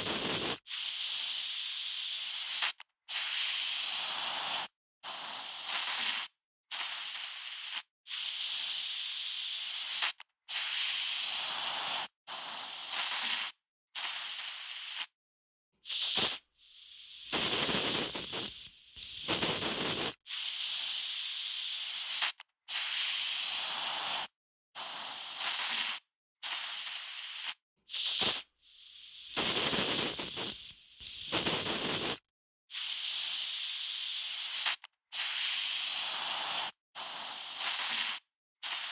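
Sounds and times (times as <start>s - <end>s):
aerosol spray can hissing: 0.0s - 15.1s, 15.8s - 38.9s.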